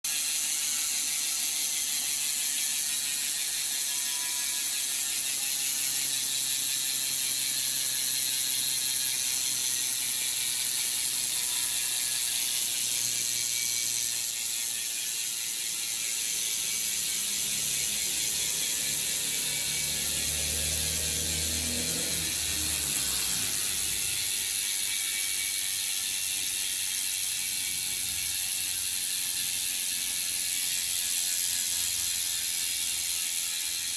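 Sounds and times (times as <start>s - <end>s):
bicycle freehub ratchet whir: 0.0s - 33.9s.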